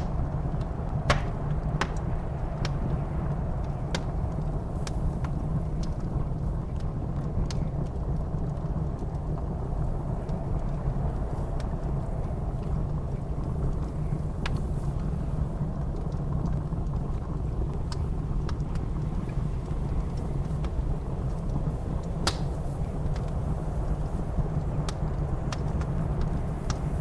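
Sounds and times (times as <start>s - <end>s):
blizzard wind roaring: 0.0s - 27.0s
wood fire crackling and popping: 0.0s - 27.0s.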